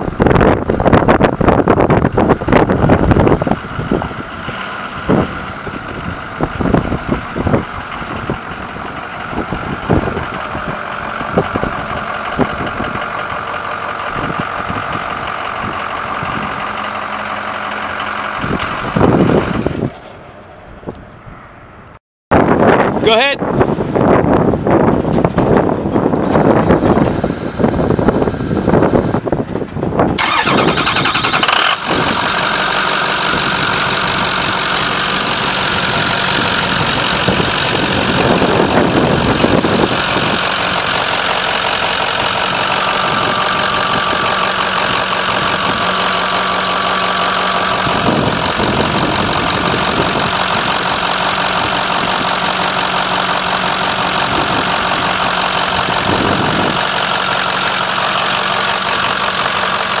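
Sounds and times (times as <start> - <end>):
diesel engine starting and idling: 0.0 - 21.2, 24.0 - 60.0.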